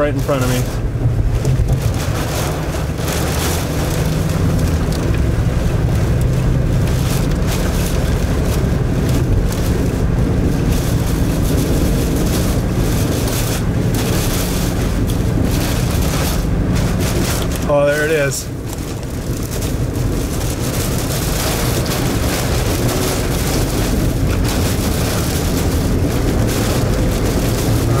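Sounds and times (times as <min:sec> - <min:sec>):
road and engine noise: 0:00.0 - 0:28.0
wind against a car: 0:00.0 - 0:28.0.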